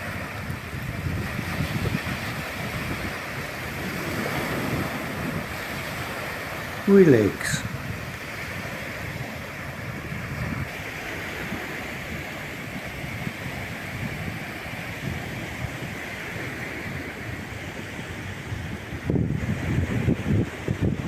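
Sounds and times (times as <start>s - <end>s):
surf washing onto a beach: 0.0s - 21.0s
wind rumbling on microphone: 0.0s - 21.0s.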